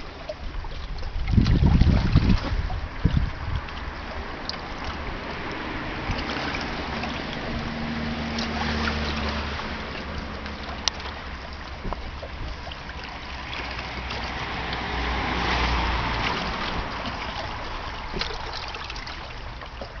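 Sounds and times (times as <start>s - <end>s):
wind on microphone: 0.0s - 10.3s, 11.4s - 20.0s
low steady rumble: 0.0s - 20.0s
waves washing against rocks: 0.0s - 20.0s.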